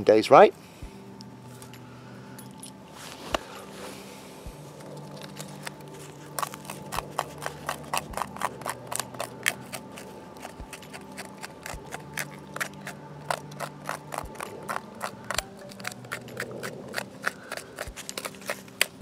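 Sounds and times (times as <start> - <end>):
flint scraping bark: 2.9 - 19.0.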